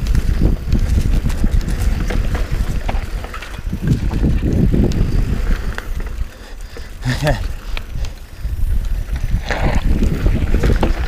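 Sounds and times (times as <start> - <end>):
bike clicks and rattles: 0.0 - 11.0
tyre noise on dirt: 0.0 - 11.0
wind buffeting microphone: 0.0 - 11.0.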